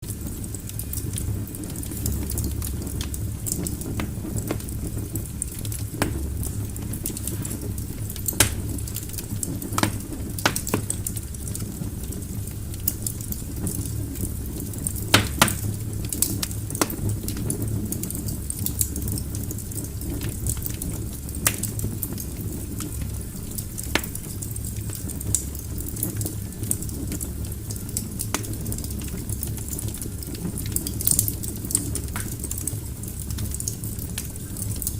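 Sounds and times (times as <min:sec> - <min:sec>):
fire flames rumbling and hissing: 0:00.0 - 0:34.9
logs crackling and popping: 0:00.0 - 0:34.9.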